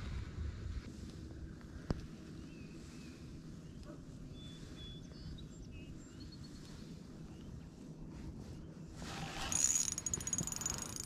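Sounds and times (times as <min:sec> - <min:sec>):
wind rumble on microphone: 0:00.0 - 0:09.5.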